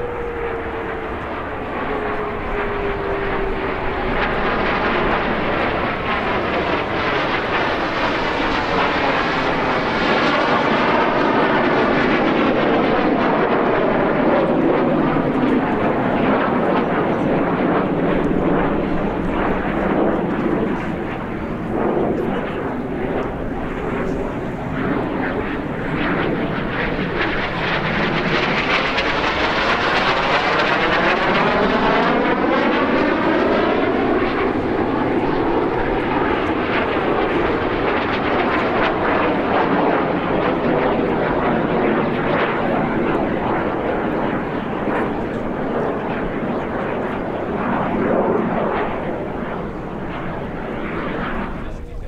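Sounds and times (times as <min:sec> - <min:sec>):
jet engine passing overhead: 0:00.0 - 0:52.0.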